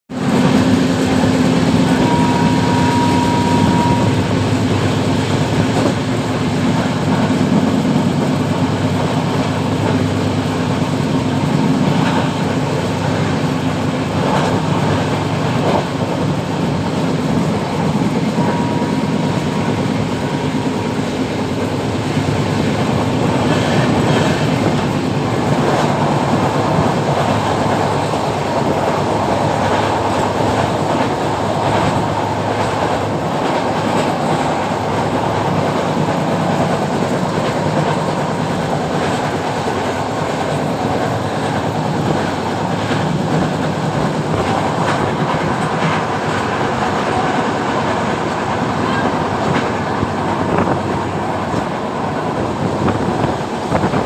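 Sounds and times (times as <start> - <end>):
train rumble: 0.1 - 54.0
wheels clacking over rail joints: 0.1 - 54.0.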